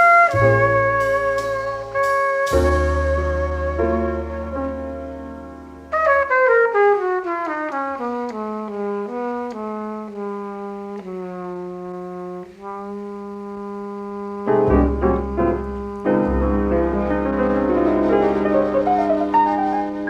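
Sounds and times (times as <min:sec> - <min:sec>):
bass: 0:00.0 - 0:20.0
jazz trumpet: 0:00.0 - 0:20.0
piano: 0:00.0 - 0:20.0.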